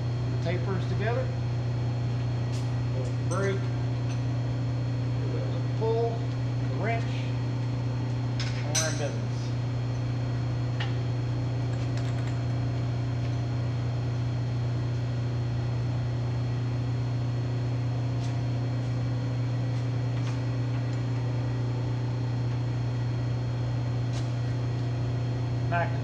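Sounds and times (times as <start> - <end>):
low electric hum of machinery: 0.0 - 26.0.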